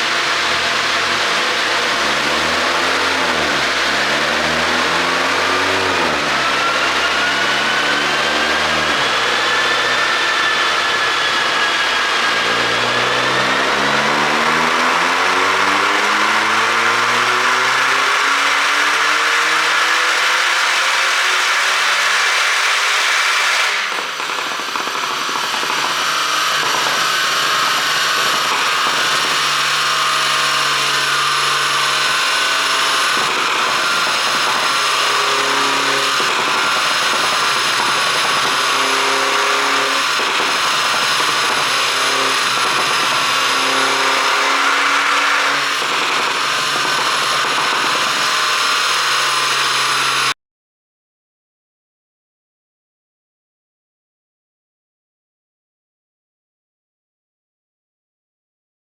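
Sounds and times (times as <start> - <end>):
car engine revving and whining: 0.0 - 50.4.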